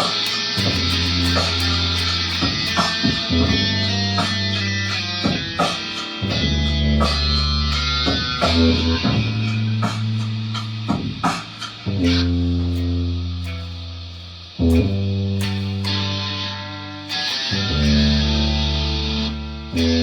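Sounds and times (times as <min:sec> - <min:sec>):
bass guitar: 0:00.0 - 0:20.0
electric guitar chords: 0:00.0 - 0:20.0.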